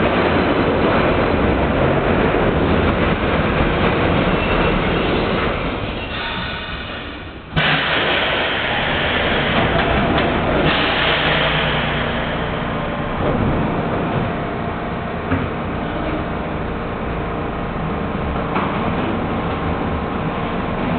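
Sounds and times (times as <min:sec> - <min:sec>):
loud rush of noise: 0:00.0 - 0:20.9.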